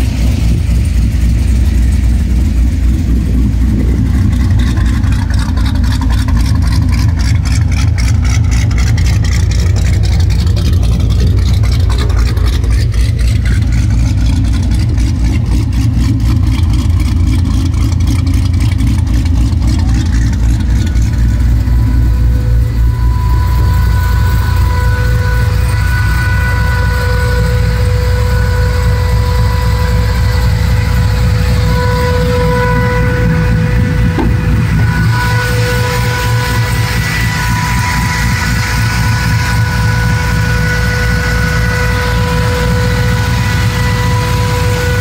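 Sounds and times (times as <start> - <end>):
vee eight engine idling: 0.0 - 45.0.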